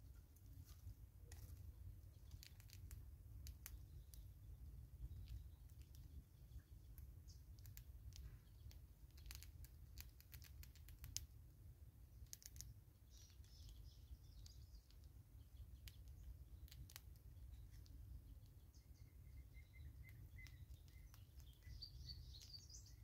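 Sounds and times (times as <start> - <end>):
faint bird chirps: 1.2 - 9.6, 12.0 - 23.0
squirrels gnawing seeds clicks: 1.2 - 23.0.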